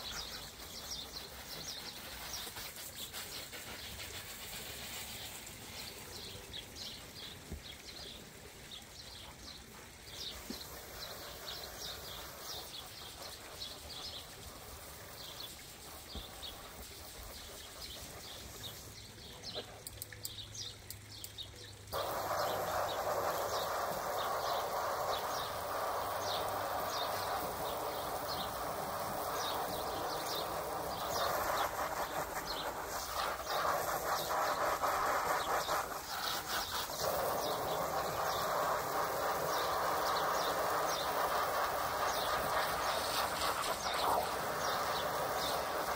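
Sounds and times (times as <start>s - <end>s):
hose spraying water on vinyl: 0.0s - 20.2s, 21.8s - 45.9s
birds chirping: 0.0s - 45.9s.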